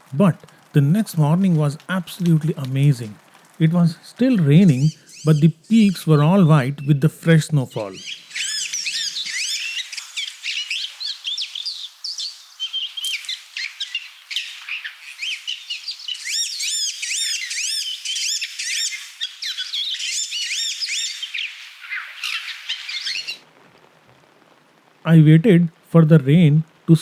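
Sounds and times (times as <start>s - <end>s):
small birds chirping: 0.0s - 23.4s.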